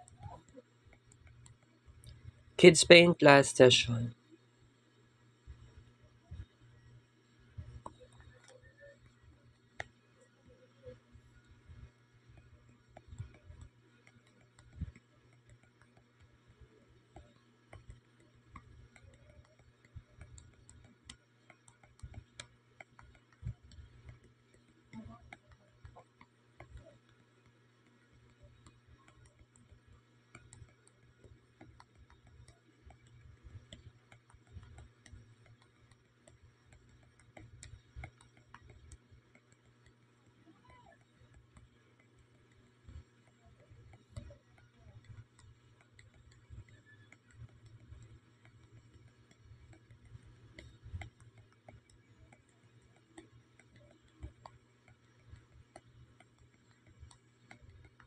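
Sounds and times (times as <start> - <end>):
faint clicks and ticks: 0.0 - 58.0
low steady hum: 0.0 - 58.0.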